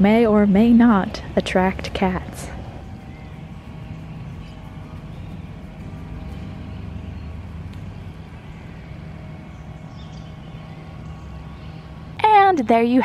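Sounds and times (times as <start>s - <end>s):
faint outdoor background noise: 0.0s - 13.0s
low mechanical hum: 0.0s - 13.0s.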